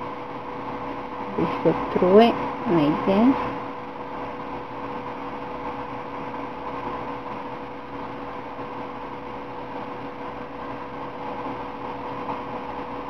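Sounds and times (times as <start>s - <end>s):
constant mid-pitched tone: 0.0s - 13.0s
machine hum and hiss: 0.0s - 13.0s.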